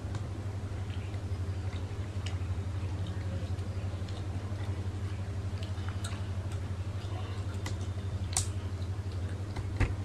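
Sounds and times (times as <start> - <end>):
steady low hum: 0.0 - 10.0
chewing smacks and clicks: 0.1 - 9.7.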